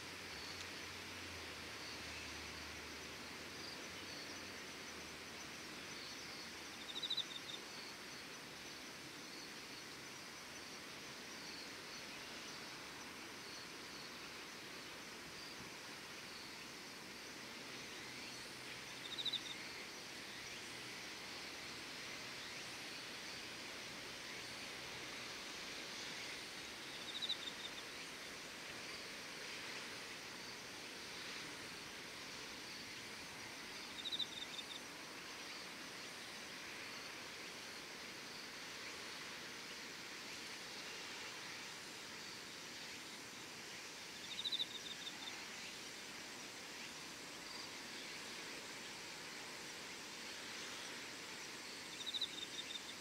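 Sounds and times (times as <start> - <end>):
chorus of insects: 0.0 - 53.0.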